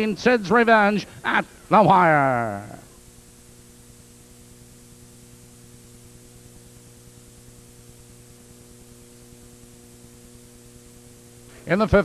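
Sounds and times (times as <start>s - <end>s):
constant hiss: 0.0s - 12.0s
electrical mains hum: 0.0s - 12.0s.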